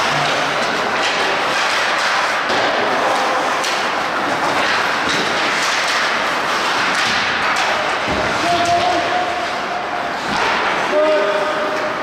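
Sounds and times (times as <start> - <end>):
ice hockey rink din: 0.0 - 12.0.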